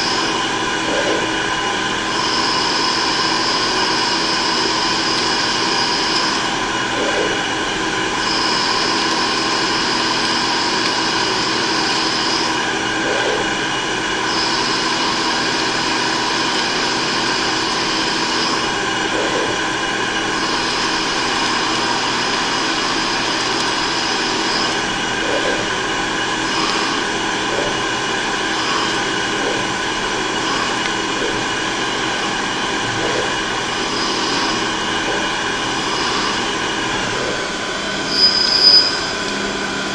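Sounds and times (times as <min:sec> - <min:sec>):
machine tool hum and whine: 0:00.0 - 0:39.9.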